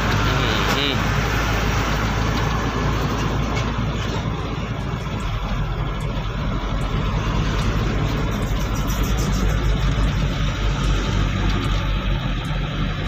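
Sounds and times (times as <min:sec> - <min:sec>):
road noise inside cab: 0:00.0 - 0:13.0
truck engine drone: 0:00.0 - 0:13.0.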